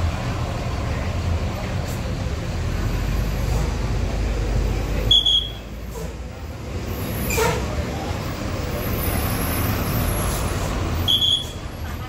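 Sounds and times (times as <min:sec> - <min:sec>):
bus engines running: 0:00.0 - 0:12.0
traffic noise: 0:00.0 - 0:12.0.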